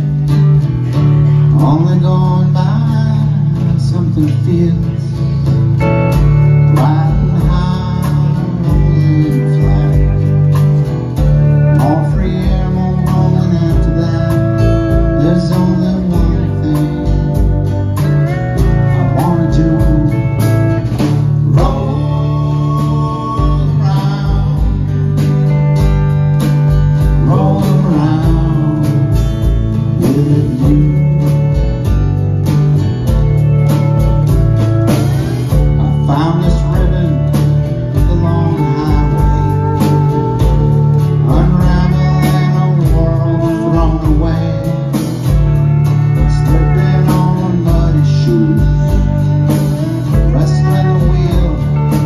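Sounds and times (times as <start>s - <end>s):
drums: 0.0s - 52.0s
electric bass: 0.0s - 52.0s
pedal steel guitar: 0.0s - 52.0s
strummed acoustic guitar: 0.0s - 52.0s.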